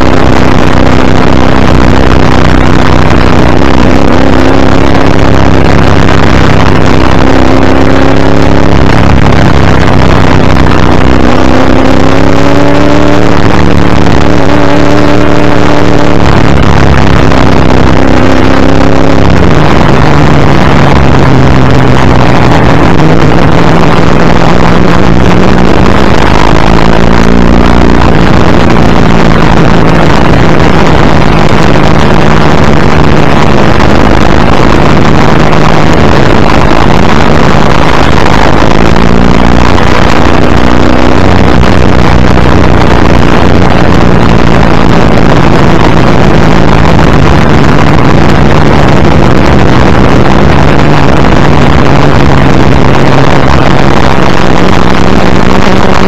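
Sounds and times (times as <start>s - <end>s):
racing engine under hard load: 0.0s - 56.0s
wind and road noise: 0.0s - 56.0s.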